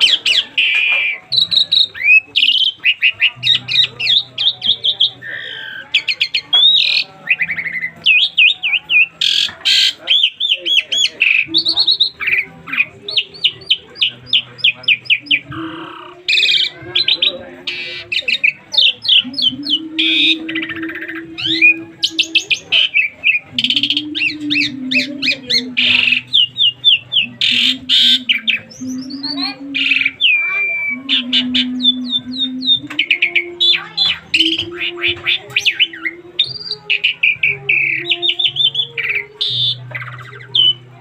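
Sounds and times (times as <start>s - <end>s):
starling singing: 0.0s - 41.0s.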